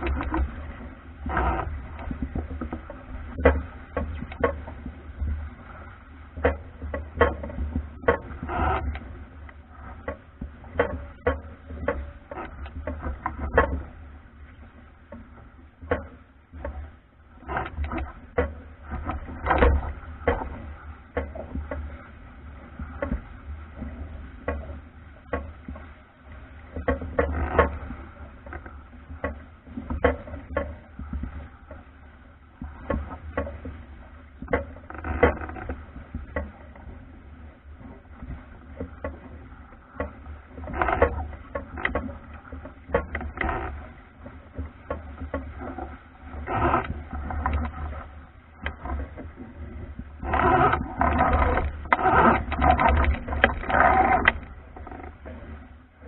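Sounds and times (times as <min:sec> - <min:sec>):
hull slapping on waves: 0:00.0 - 0:56.0.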